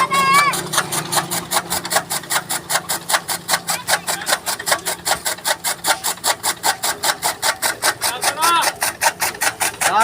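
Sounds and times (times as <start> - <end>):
fodder cutter blades chopping: 0.0 - 10.0.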